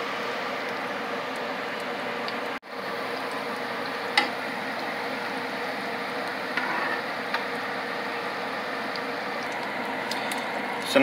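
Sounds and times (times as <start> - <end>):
butter sizzling in frying pan: 0.0 - 11.0.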